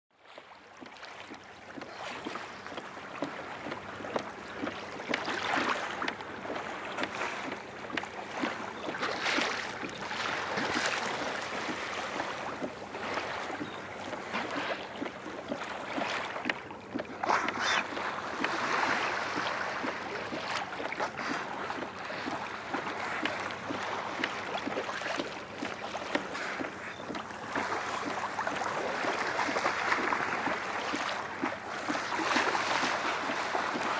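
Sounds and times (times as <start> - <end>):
waves lapping against a hull: 0.1 - 33.9.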